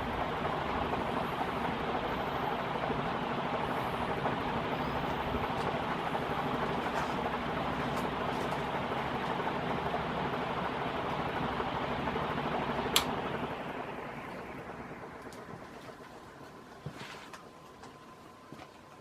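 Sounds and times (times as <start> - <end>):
ceiling fan air rush: 0.0 - 19.0
faint motor hum: 0.0 - 19.0.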